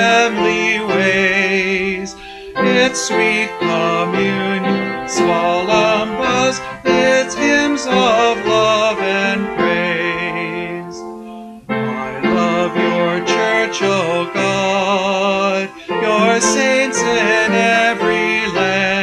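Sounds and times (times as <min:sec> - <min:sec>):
instrumental accompaniment: 0:00.0 - 0:19.0
person singing a hymn: 0:00.0 - 0:19.0.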